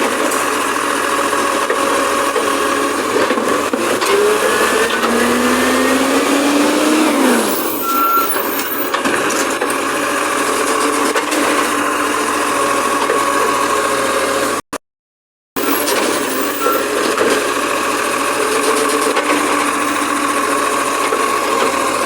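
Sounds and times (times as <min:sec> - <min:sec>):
garbage truck engine running: 0:00.0 - 0:14.6, 0:15.6 - 0:22.0.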